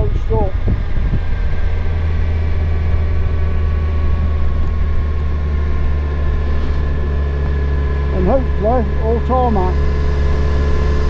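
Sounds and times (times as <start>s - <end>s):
faint steady whine: 0.0s - 11.0s
motorcycle engine drone: 0.0s - 11.0s.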